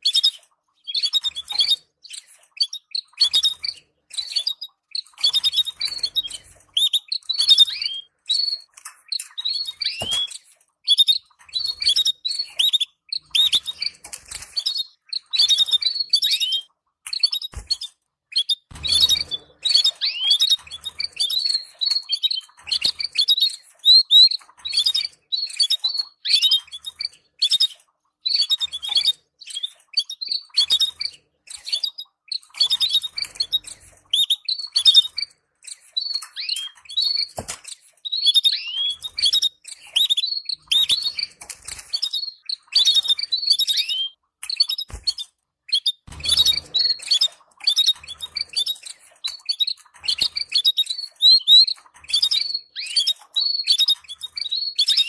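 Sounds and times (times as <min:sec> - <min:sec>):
canaries twittering: 0:00.0 - 0:55.0.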